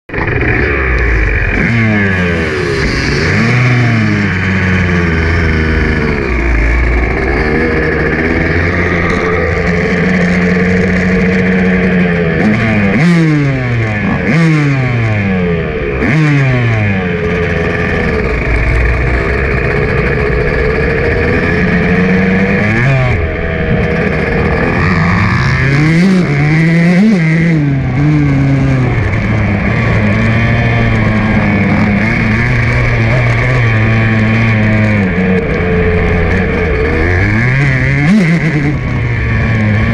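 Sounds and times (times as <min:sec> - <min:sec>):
dirt bike engine revving: 0:00.1 - 0:39.9.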